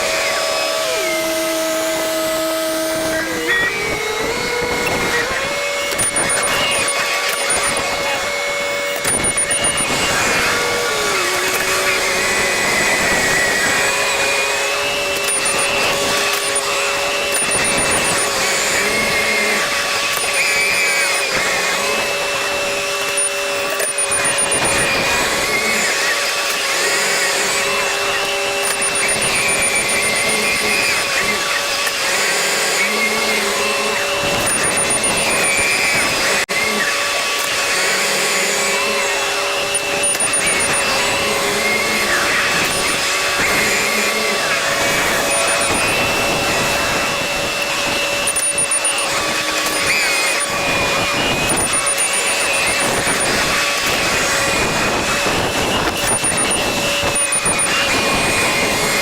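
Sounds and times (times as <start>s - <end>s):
engine running with whine: 0.0s - 59.0s.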